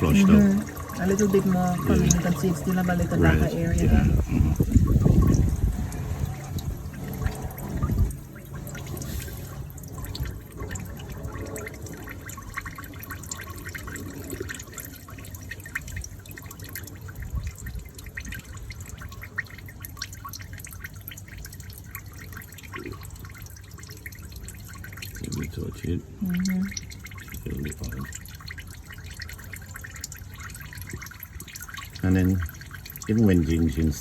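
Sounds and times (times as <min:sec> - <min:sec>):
oil dripping into a pan: 0:00.0 - 0:34.0.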